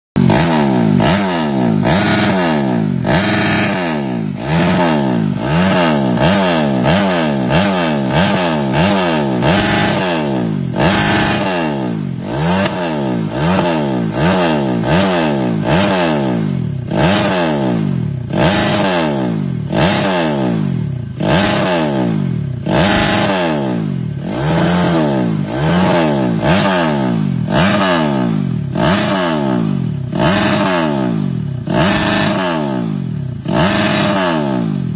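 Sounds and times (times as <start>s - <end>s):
engine revving in throttle blips: 0.2s - 34.9s.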